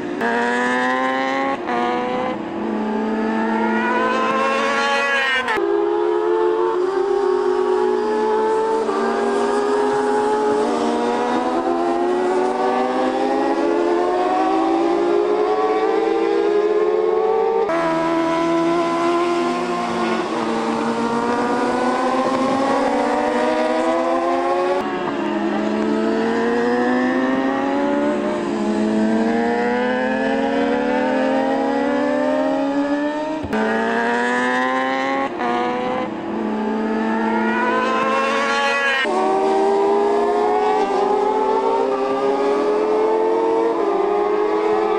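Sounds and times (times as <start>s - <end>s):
racing motorcycle engines at high revs: 0.0s - 44.9s.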